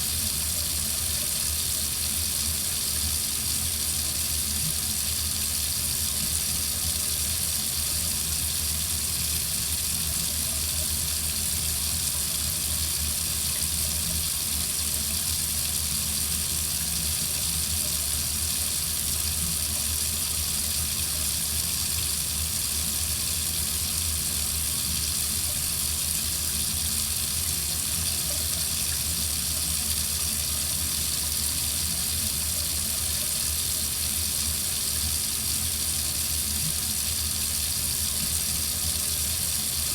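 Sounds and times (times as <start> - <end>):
water running from faucet: 0.0 - 39.9.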